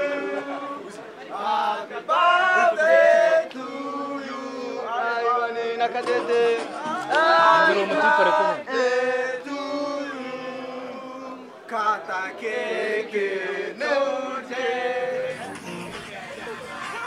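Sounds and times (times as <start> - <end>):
voices singing a chant: 0.0 - 17.0.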